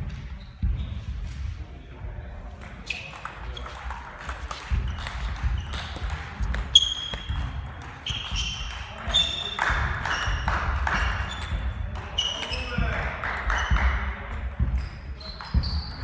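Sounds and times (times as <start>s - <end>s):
table tennis balls clicking: 2.5s - 15.6s.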